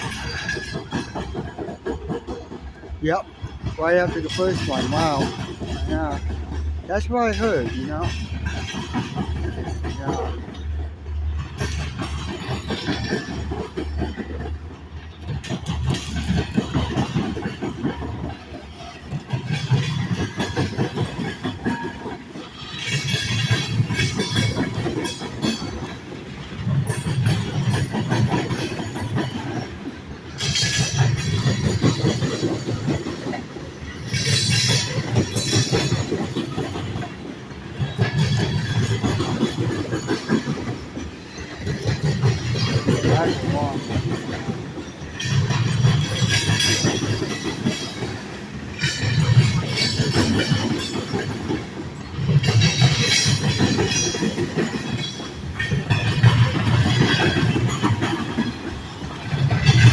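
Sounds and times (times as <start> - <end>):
train wheels clicking over rail joints: 0.0 - 59.9.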